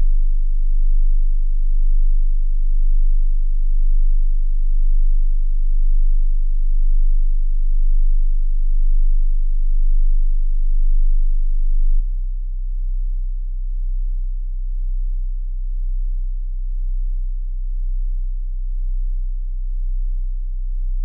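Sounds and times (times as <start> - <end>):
low pulsing sine tone: 0.0 - 21.0.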